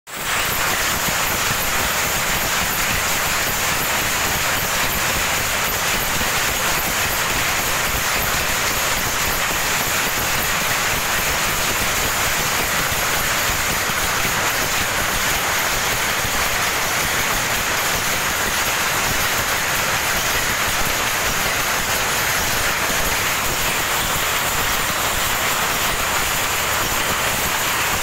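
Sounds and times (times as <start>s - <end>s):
power looms clattering: 0.2s - 28.0s.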